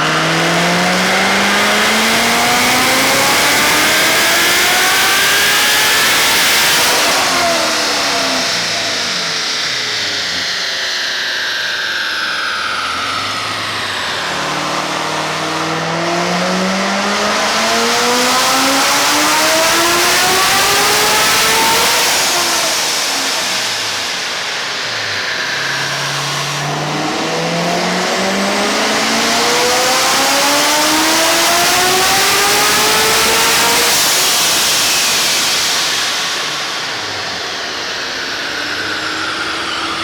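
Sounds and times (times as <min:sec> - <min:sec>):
falling high whine: 0:00.0 - 0:40.0
supercharged engine revving: 0:00.0 - 0:40.0.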